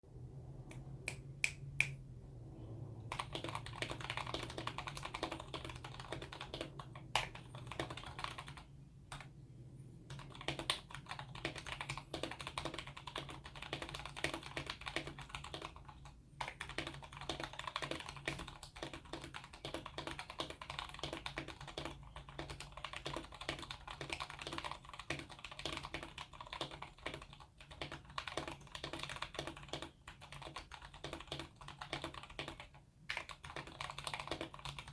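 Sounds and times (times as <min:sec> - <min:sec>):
mechanical keyboard typing: 0:03.1 - 0:09.3, 0:10.1 - 0:34.9.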